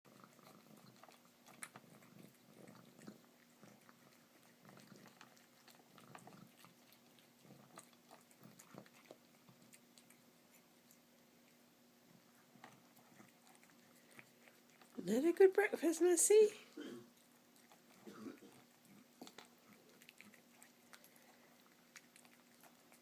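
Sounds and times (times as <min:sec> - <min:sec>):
cat chewing and licking: 0:00.1 - 0:23.0.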